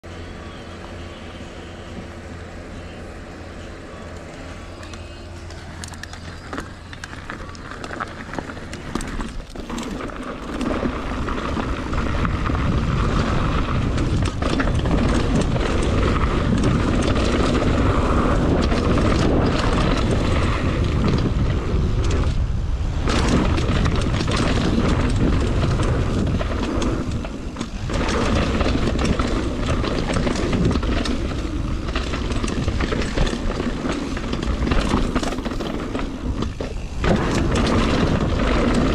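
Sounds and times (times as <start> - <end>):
tyres rolling on dirt: 4.0 - 38.9
bike rattling over bumps: 5.0 - 38.9
wind rushing over microphone: 6.3 - 38.9.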